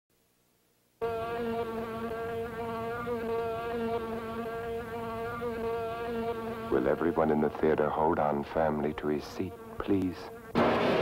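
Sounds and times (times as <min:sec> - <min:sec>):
housefly buzzing: 0:01.0 - 0:11.0.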